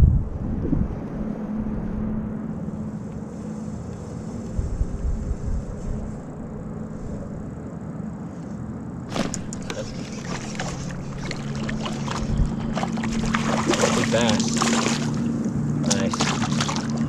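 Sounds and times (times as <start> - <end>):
wind rumble on microphone: 0.0 - 17.0
boat motor humming: 0.8 - 17.0.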